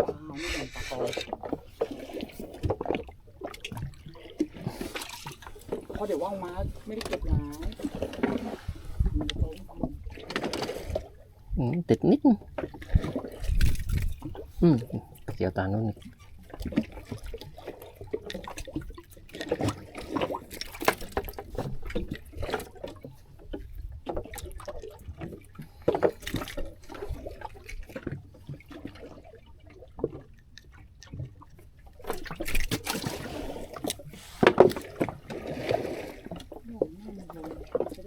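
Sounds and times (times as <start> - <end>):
water splashing against boat hull: 0.0 - 11.3, 12.5 - 38.0.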